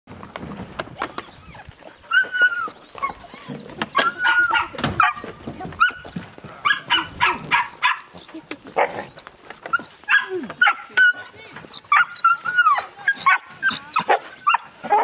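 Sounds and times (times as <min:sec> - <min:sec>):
dogs barking and yelping: 0:01.0 - 0:15.0.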